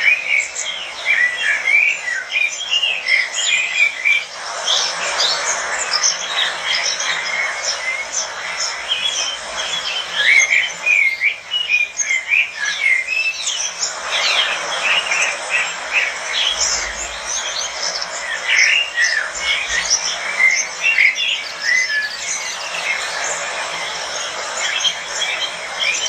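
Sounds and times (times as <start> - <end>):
lovebirds chirping: 5.0 - 26.0.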